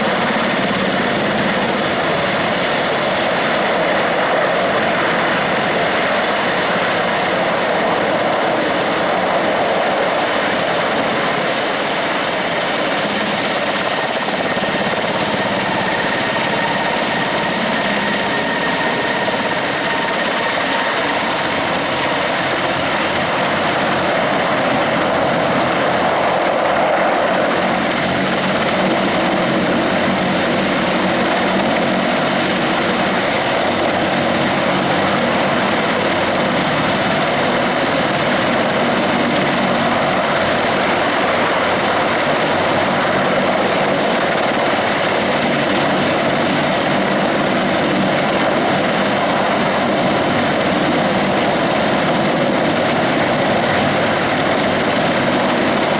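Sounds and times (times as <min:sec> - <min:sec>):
helicopter rotor and engine noise: 0:00.0 - 0:55.9
high turbine whine: 0:00.0 - 0:55.9.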